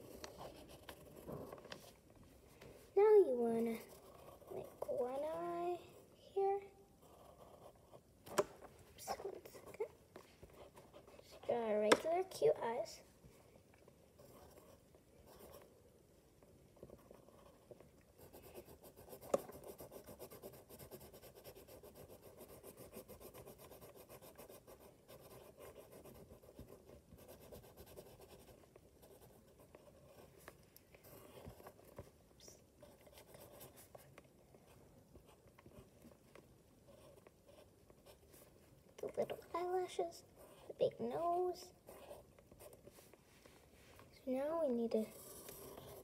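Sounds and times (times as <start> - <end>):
pencil scratching on paper: 0.0 - 2.0, 3.0 - 12.7, 14.2 - 15.7, 16.8 - 32.1, 32.8 - 34.2, 36.8 - 43.2, 44.4 - 46.0.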